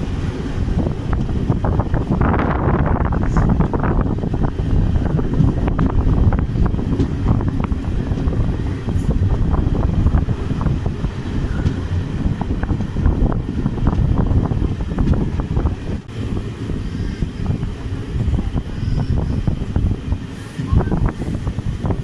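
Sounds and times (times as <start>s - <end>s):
train wheels rumbling on rails: 0.0s - 22.0s
wind noise: 0.0s - 22.0s.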